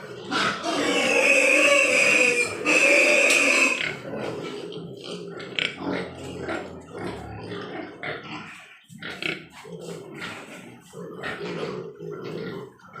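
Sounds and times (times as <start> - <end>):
pig grunts and oinks: 0.0 - 13.0
pigs squealing: 0.0 - 13.0.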